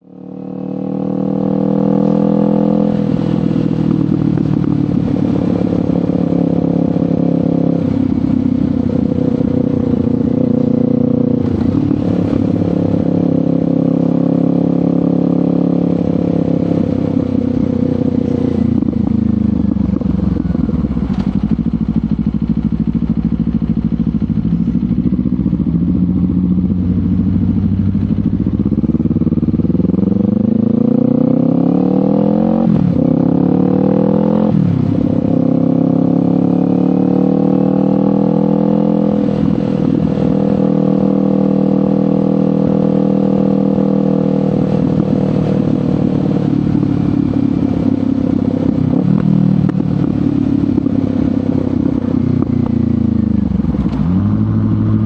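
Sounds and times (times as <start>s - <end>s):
motorcycle engine riding: 0.0s - 55.0s.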